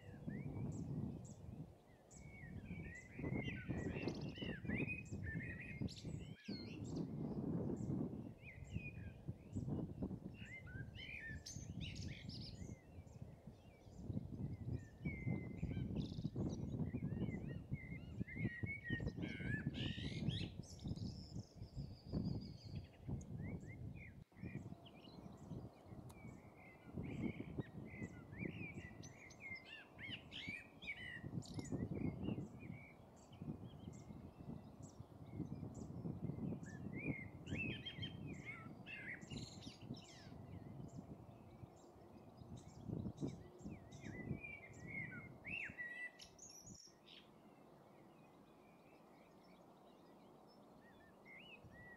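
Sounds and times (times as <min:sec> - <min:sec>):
songbirds chirping and trilling: 0:00.0 - 0:51.9.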